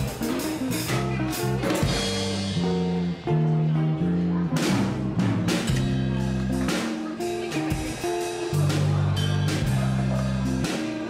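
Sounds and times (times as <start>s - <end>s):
drums keeping a beat: 0.0s - 11.0s
guitar music: 0.0s - 11.0s.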